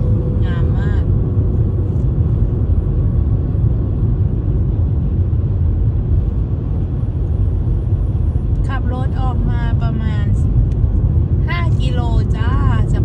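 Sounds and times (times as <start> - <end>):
car interior road and engine noise: 0.0 - 13.0.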